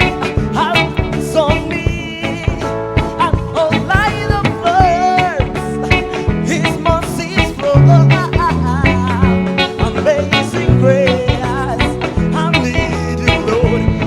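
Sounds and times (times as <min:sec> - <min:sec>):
drum hits: 0:00.0 - 0:14.0
person singing: 0:00.0 - 0:14.0
sustained bass notes: 0:00.0 - 0:14.0.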